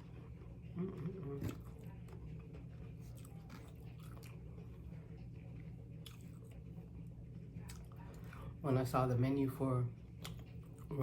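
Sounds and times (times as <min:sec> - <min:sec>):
person chewing food: 0:00.0 - 0:07.0, 0:07.6 - 0:08.6, 0:10.1 - 0:11.0
steady low hum: 0:00.0 - 0:11.0.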